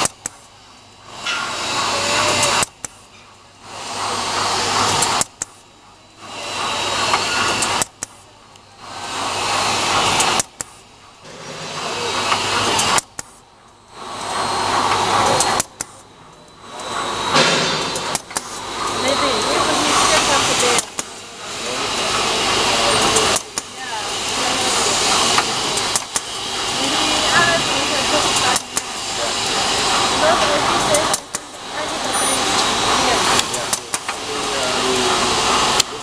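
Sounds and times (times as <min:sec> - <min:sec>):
machine rushing noise: 0:00.0 - 0:36.0.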